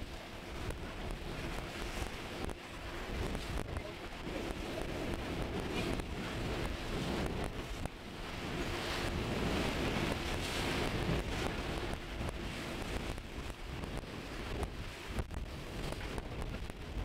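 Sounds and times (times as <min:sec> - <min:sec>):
sea rushing: 0:00.0 - 0:17.0
wind buffeting microphone: 0:00.0 - 0:17.0.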